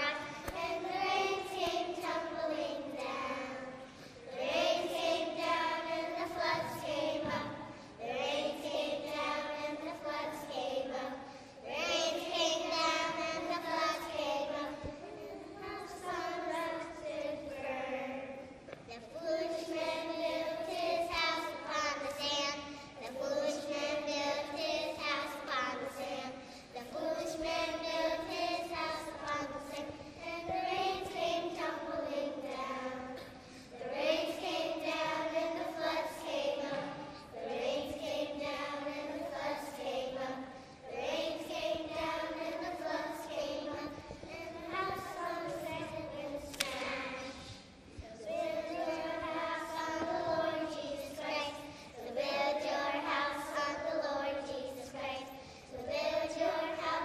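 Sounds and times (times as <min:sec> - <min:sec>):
children singing in unison: 0:00.0 - 0:57.0.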